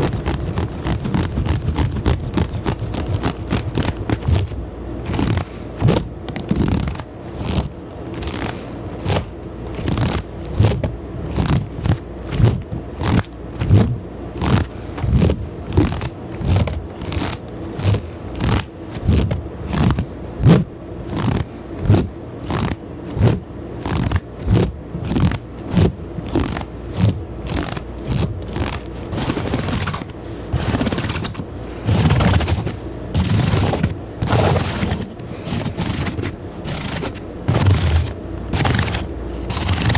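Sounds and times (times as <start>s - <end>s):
continuous scraping: 0.0s - 39.9s
scratching and tapping: 0.0s - 39.9s.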